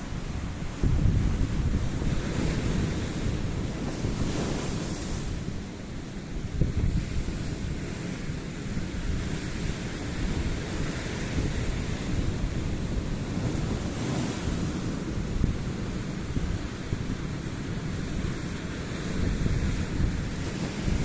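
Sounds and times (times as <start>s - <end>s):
ocean waves washing on shore: 0.0s - 21.0s
wind buffeting microphone: 0.0s - 21.0s.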